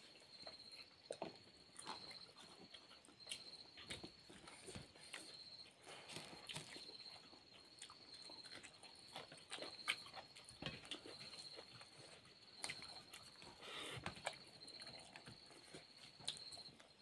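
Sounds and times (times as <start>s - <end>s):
chewing and mouth smacks: 0.5s - 17.0s.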